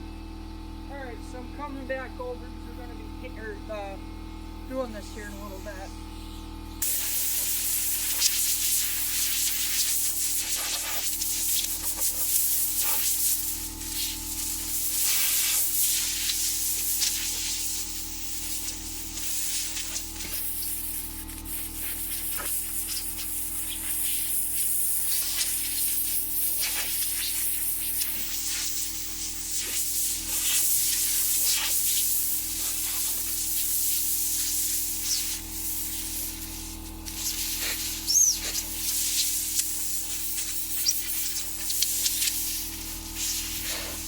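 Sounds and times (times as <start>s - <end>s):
compressed air hissing from nozzle: 5.2s - 44.0s.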